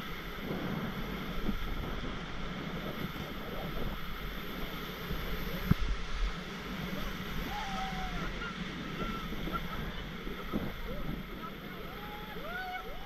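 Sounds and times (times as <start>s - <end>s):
water splashing against raft: 0.0s - 13.0s
wind buffeting microphone: 0.0s - 13.0s.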